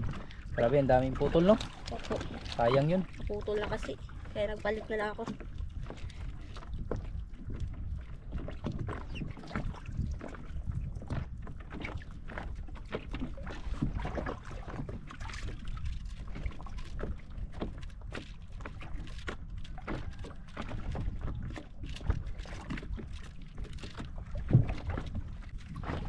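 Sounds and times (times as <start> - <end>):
water lapping against boat: 0.0 - 26.0
wind rumble on microphone: 0.0 - 26.0.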